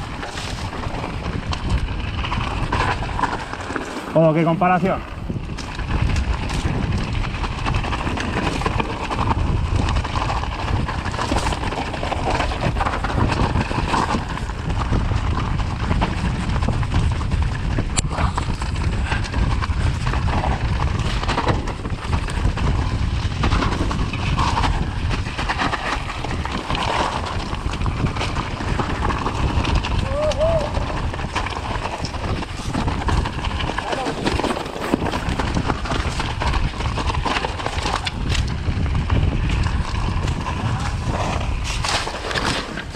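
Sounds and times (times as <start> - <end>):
bicycle rattling over rough trail: 0.0 - 42.9
wind rush on microphone: 0.0 - 42.9.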